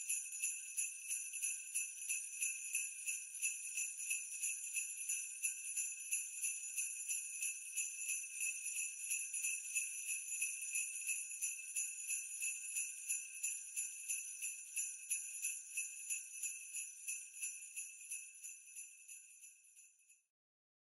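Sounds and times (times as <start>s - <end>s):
jingle bells shaking: 0.0s - 19.8s.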